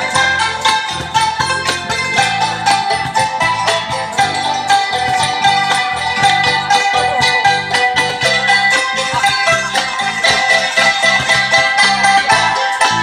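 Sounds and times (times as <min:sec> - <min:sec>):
amplified long-necked lute: 0:00.0 - 0:13.0
low bass notes beat: 0:00.0 - 0:13.0
wooden xylophones playing quick runs: 0:00.0 - 0:13.0.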